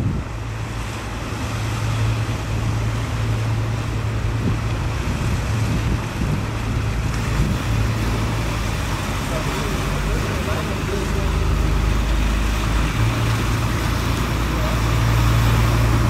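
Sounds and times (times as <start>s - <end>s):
boat diesel engine humming: 0.0s - 16.0s
wind rumbling on microphone: 0.0s - 16.0s.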